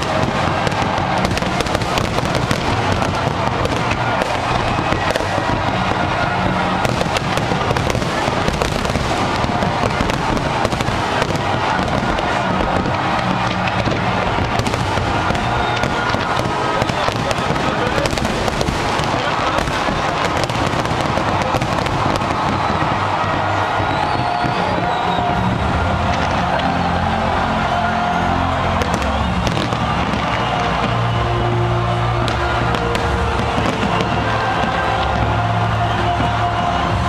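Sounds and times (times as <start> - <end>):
fireworks bangs and crackling: 0.0 - 37.0
music playing: 0.0 - 37.0.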